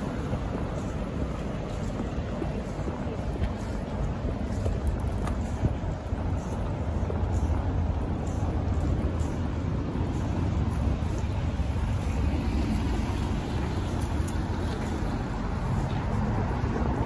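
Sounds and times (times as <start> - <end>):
cars passing on road: 0.0 - 17.0.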